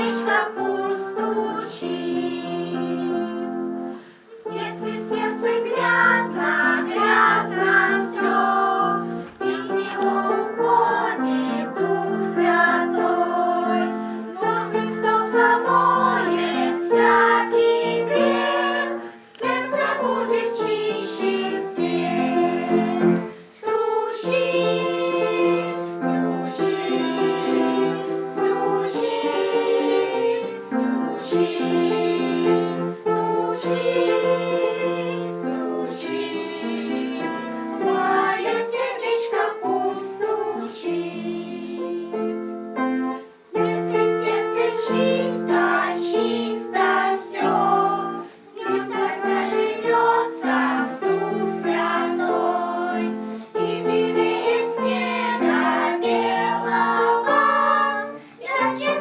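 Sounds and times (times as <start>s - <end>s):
children singing together: 0.0s - 59.0s
musical accompaniment: 0.0s - 59.0s.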